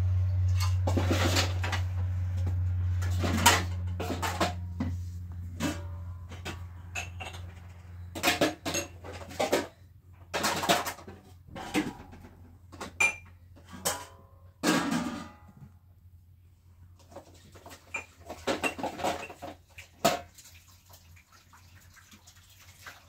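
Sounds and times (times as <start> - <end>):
metal pots and dishes clattering: 0.4 - 15.6, 17.0 - 20.4.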